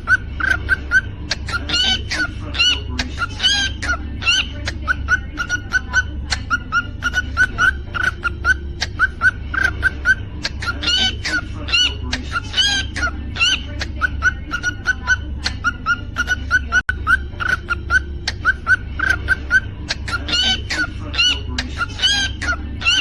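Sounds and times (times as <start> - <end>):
cockatiel chirping: 0.0 - 23.0
steady low hum: 0.0 - 23.0.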